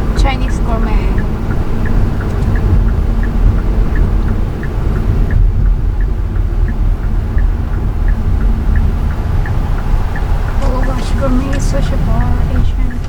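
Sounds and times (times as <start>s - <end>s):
road and engine rumble: 0.0s - 13.0s
turn signal ticking: 0.0s - 13.0s.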